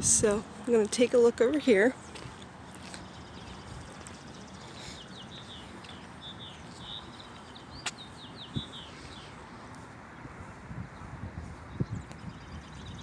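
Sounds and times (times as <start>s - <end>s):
songbird chirping: 0.0s - 13.0s
steady outdoor hiss: 0.0s - 13.0s.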